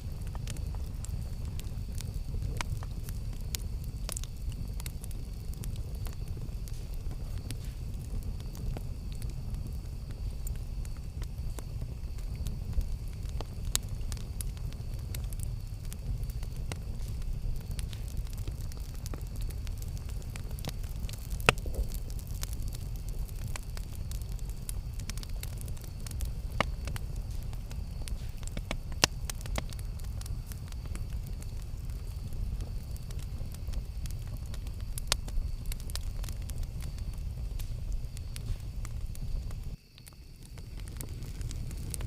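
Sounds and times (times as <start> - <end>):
burning wood crackling and popping: 0.0 - 42.0
campfire flames rumbling: 0.0 - 42.0.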